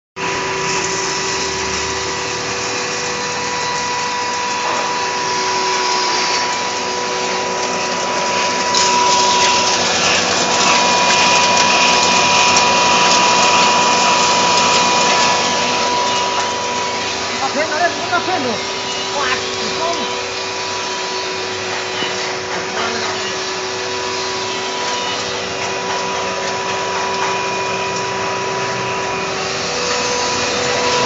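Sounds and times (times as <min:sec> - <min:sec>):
grain grinder motor whirring: 0:00.2 - 0:31.0.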